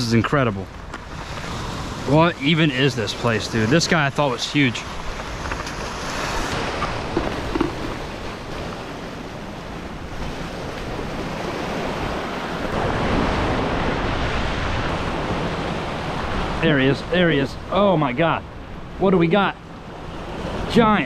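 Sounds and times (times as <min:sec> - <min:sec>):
ocean surf breaking over rocks: 0:00.0 - 0:21.0.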